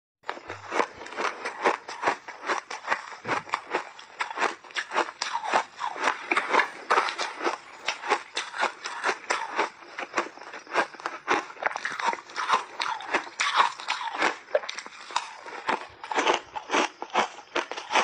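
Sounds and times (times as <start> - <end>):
crunching and chewing ice: 0.2 - 18.0.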